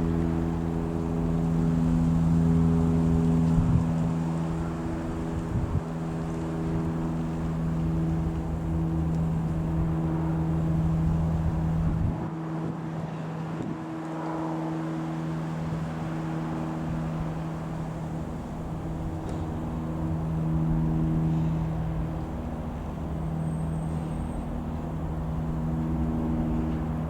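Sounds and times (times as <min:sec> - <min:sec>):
light aircraft engine droning: 0:00.0 - 0:27.0
wind rumble on microphone: 0:00.0 - 0:27.0.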